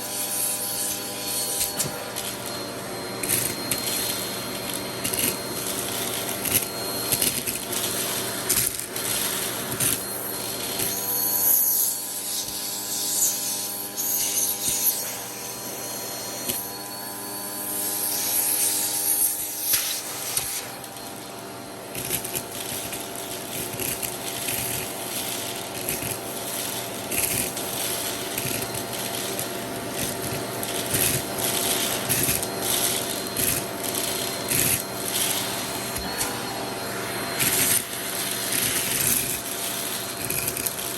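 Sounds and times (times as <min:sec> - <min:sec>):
vacuum cleaner humming: 0:00.0 - 0:40.9.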